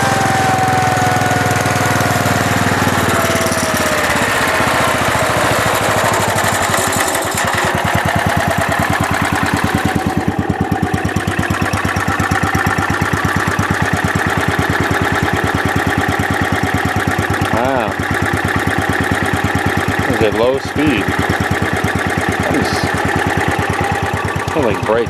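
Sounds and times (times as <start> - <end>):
lawn tractor engine running: 0.0 - 25.0.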